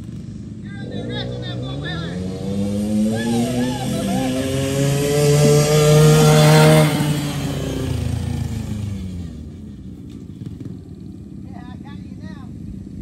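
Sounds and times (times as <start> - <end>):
quad engine passing by: 0.0 - 13.0.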